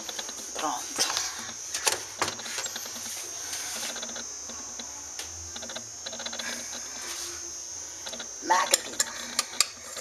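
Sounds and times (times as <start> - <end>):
steady high-pitched whine: 0.0 - 10.0.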